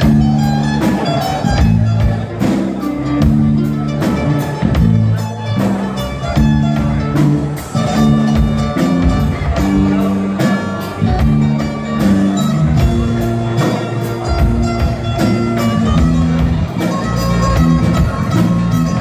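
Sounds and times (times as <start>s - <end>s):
drum kit beat: 0.0s - 19.0s
electric bass: 0.0s - 19.0s
guitar chords: 0.0s - 19.0s.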